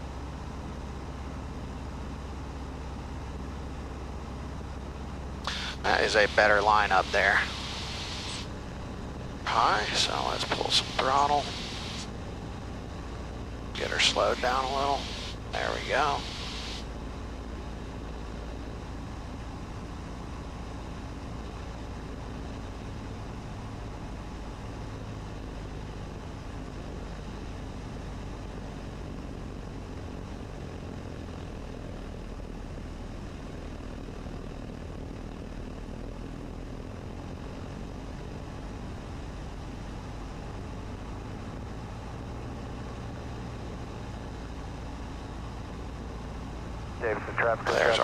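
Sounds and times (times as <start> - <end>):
airplane engine and propeller: 0.0 - 48.0.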